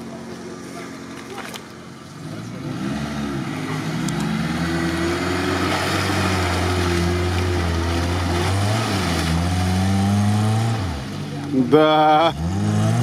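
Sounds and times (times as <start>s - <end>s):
off-road engine revving: 0.0s - 13.0s
tyres churning mud: 0.0s - 13.0s.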